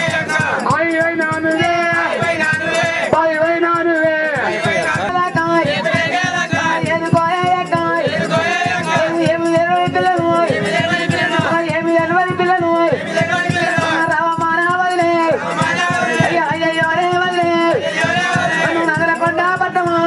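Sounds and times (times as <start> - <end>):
quick steady drum strokes: 0.0 - 20.0
rattling percussion: 0.0 - 20.0.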